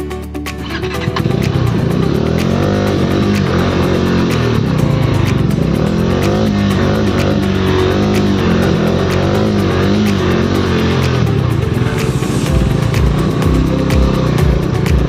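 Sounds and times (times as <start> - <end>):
motorcycle engine revving: 0.6 - 15.0.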